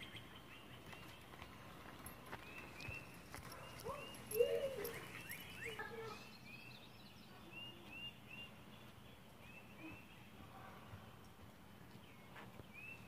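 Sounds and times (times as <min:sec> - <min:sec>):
low outdoor hum: 0:00.0 - 0:13.0
songbird chirps: 0:00.0 - 0:13.0.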